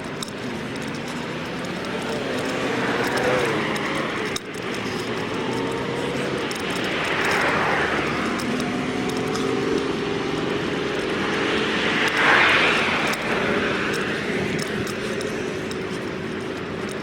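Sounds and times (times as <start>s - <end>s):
steady engine hum: 0.0s - 17.0s
vehicles passing by: 0.0s - 17.0s.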